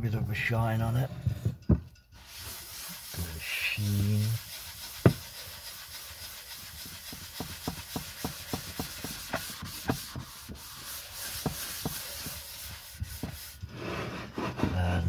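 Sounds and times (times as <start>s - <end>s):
cloth rubbing on wood: 2.2s - 14.9s.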